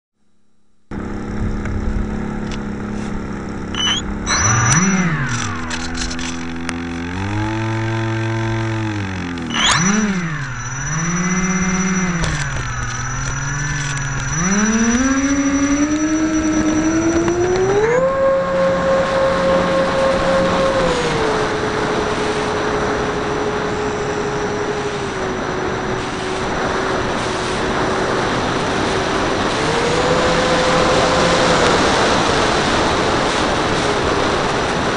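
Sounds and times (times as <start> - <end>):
electric motors whining: 0.9 - 34.9.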